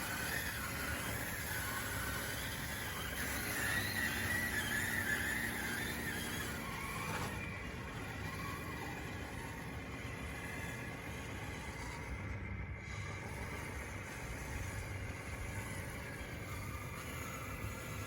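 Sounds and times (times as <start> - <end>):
electric motor whining: 0.0 - 18.0
steady low hum: 0.0 - 18.0.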